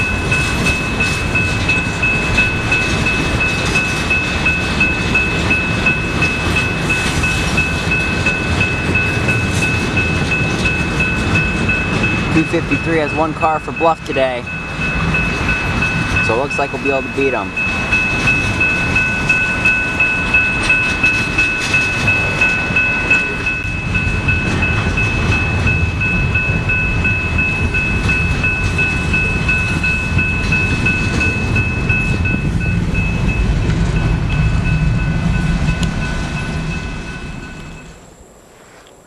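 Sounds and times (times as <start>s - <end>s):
crossing bell ringing: 0.0s - 38.3s
train rumbling: 0.0s - 39.0s
wheels clicking over rail joints: 0.0s - 39.0s.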